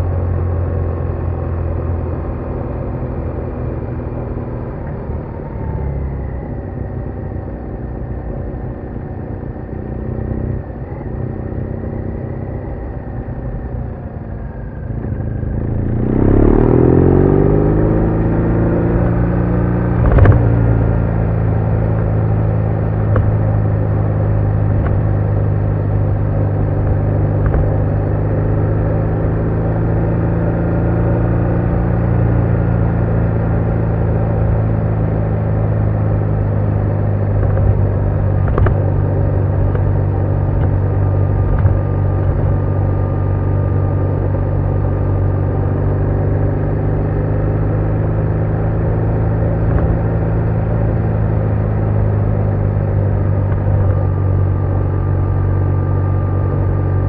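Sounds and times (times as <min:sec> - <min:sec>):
motorcycle engine running: 0:06.7 - 0:57.0.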